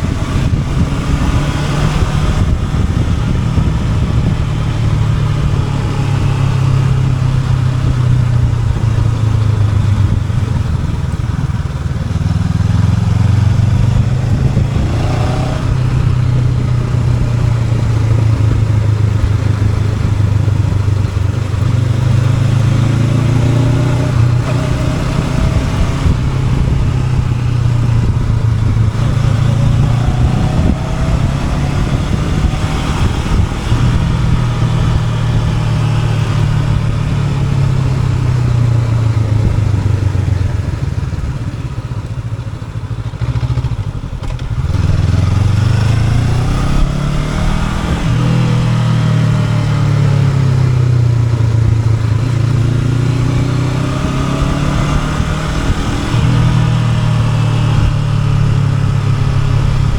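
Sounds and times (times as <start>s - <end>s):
motorcycle engine under way: 0.0s - 59.9s.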